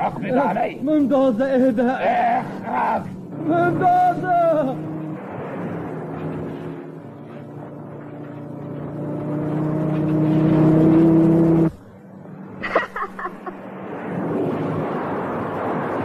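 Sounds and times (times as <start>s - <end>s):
cartoon truck engine: 0.0s - 13.6s.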